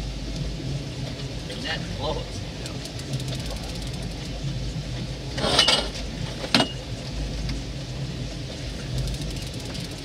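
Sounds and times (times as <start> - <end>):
outboard engine idling: 0.0 - 5.4, 6.1 - 10.0.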